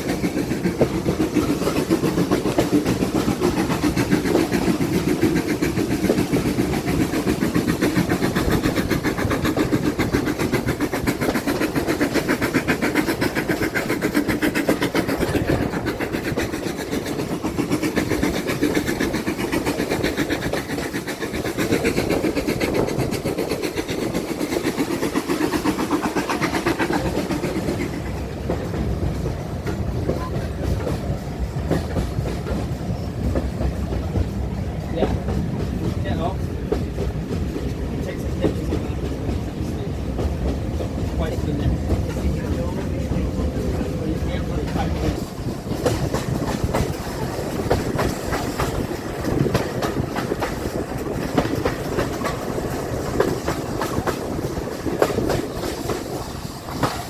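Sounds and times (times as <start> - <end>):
train wheels clattering on track: 0.0 - 57.0.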